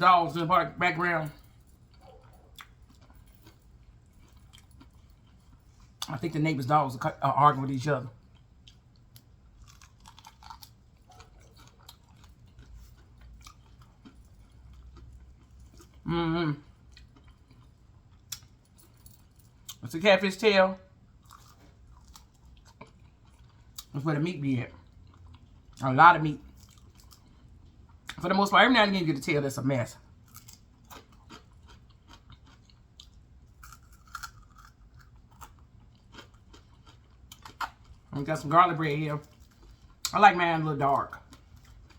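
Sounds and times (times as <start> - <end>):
chewing with crunches: 0.6 - 6.4, 7.0 - 19.8, 21.1 - 24.0, 24.7 - 28.3, 30.0 - 41.9.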